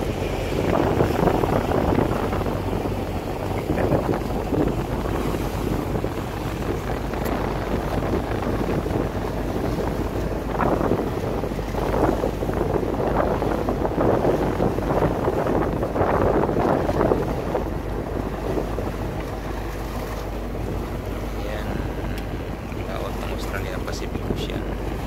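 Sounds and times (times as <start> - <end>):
boat engine humming: 0.0 - 25.0
wind buffeting microphone: 0.0 - 25.0.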